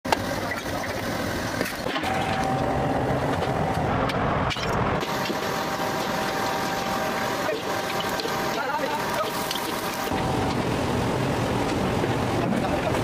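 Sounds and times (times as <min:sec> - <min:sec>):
machinery running: 0:00.3 - 0:13.0.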